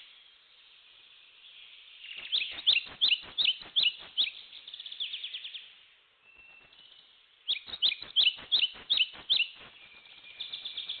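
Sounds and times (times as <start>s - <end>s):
songbird singing whistled notes: 0.0s - 11.0s.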